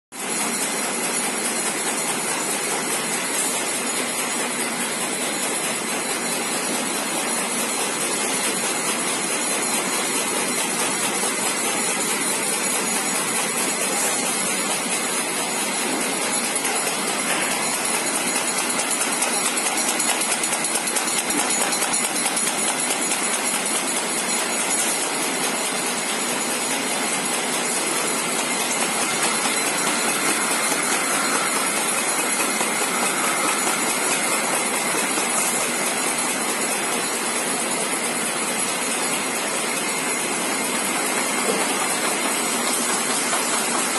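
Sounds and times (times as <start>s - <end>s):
paper folding machine running: 0.2s - 43.9s.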